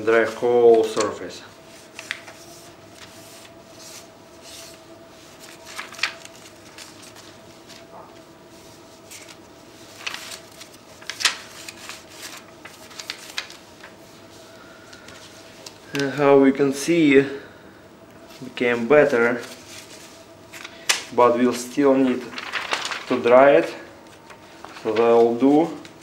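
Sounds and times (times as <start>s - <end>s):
paper napkin wiping plastic sheets: 0.0s - 16.2s, 18.3s - 26.0s
plastic sheets rustling and crinkling: 0.0s - 16.3s, 18.3s - 26.0s
faint steady hum: 0.0s - 26.0s.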